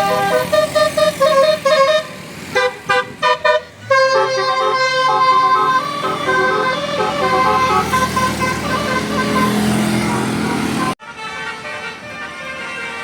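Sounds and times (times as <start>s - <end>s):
multi-tone bus horn melody: 0.0s - 13.0s.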